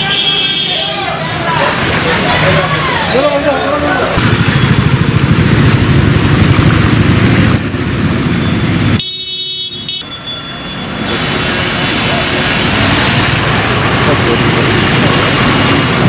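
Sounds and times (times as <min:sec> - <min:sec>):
vehicles driving through water: 0:00.0 - 0:09.0, 0:09.8 - 0:16.0.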